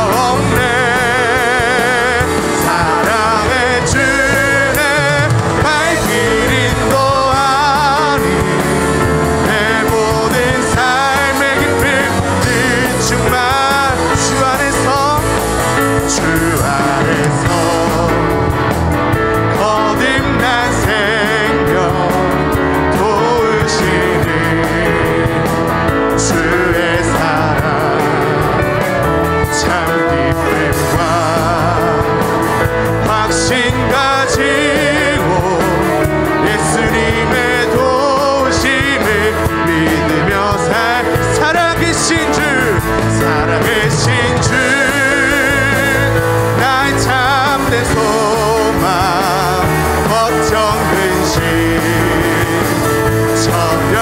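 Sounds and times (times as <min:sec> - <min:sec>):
drums and cymbals: 0:00.0 - 0:54.0
electric guitar: 0:00.0 - 0:54.0
keyboard: 0:00.0 - 0:54.0
man singing with vibrato: 0:00.0 - 0:54.0.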